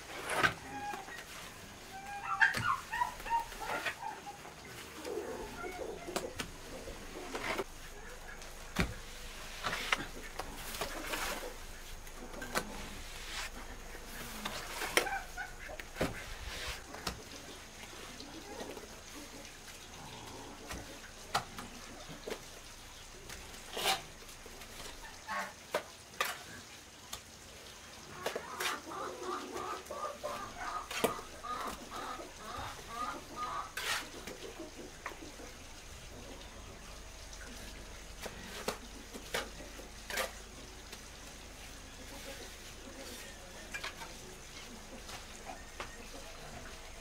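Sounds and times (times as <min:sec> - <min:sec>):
chickens clucking: 0:00.3 - 0:23.1, 0:28.0 - 0:47.0.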